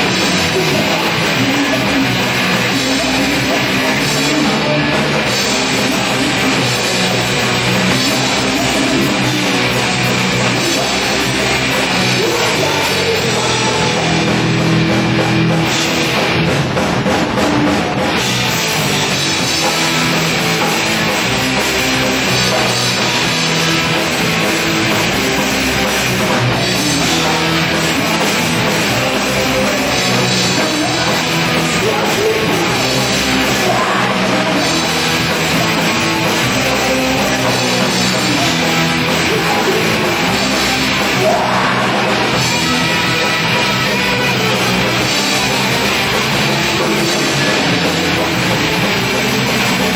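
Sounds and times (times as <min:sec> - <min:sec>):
live rock band: 0:00.0 - 0:49.9.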